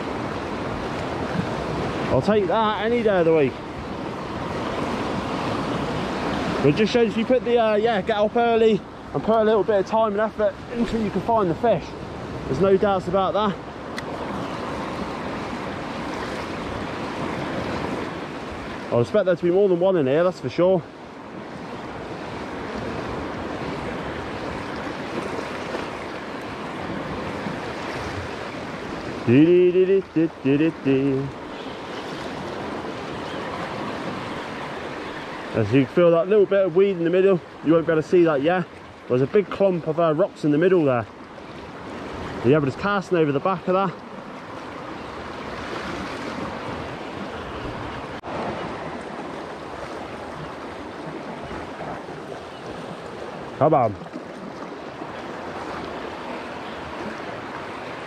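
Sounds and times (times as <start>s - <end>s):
surf washing against rocks: 0.0s - 58.0s.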